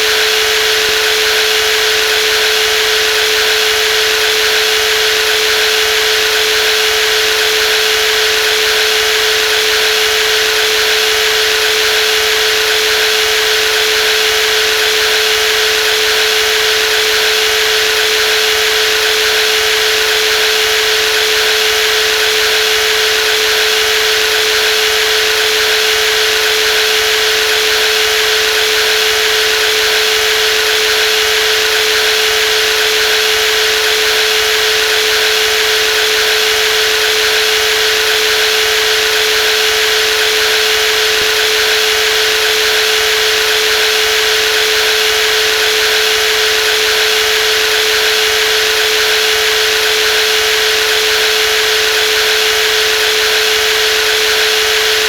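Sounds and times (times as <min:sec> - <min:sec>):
jigsaw running: 0:00.0 - 0:55.0.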